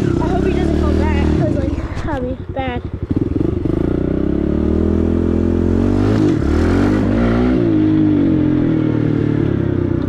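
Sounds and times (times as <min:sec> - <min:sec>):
small motorbike engine revving: 0:00.0 - 0:09.7.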